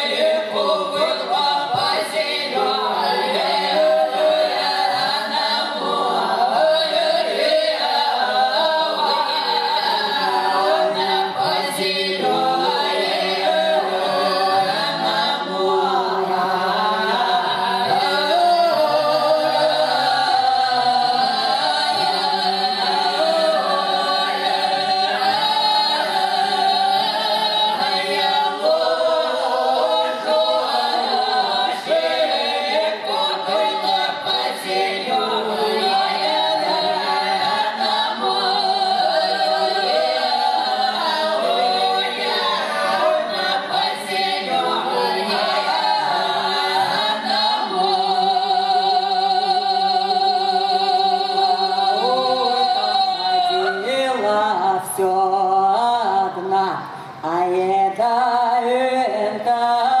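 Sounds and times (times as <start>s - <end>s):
unaccompanied choir singing folk song: 0.0s - 60.0s.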